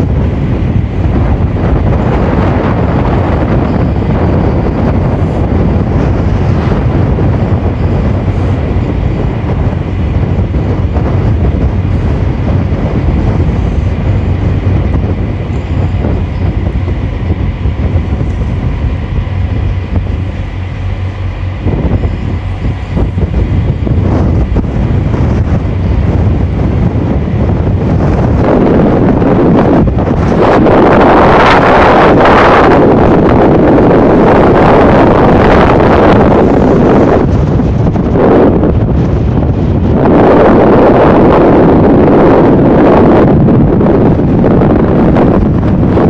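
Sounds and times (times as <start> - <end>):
boat engine rumble: 0.0 - 46.0
wind buffeting microphone: 0.0 - 46.0.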